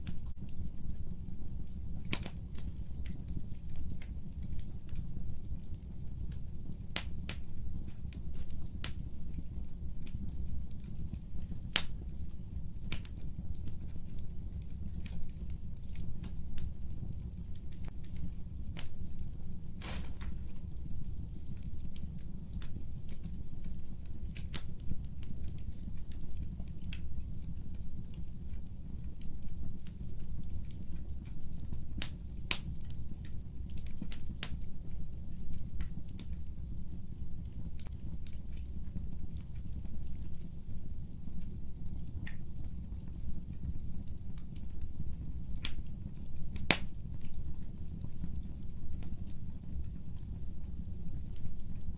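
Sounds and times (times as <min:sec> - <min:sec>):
fire crackling and popping: 0:00.0 - 0:51.9
low rumble of flame: 0:00.0 - 0:51.9.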